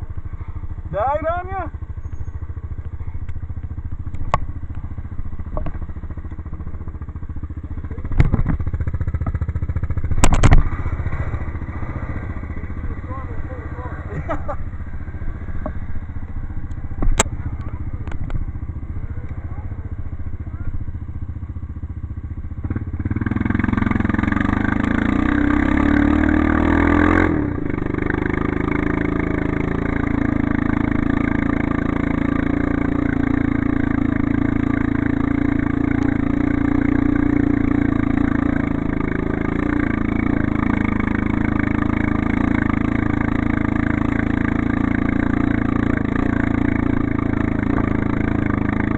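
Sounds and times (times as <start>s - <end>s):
atv engine running: 0.0s - 48.9s.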